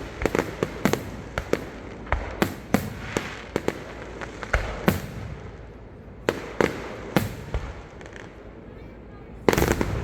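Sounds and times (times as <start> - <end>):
fireworks crackle: 0.0 - 8.4, 9.5 - 10.0
fireworks bangs: 0.0 - 8.5, 9.4 - 10.0.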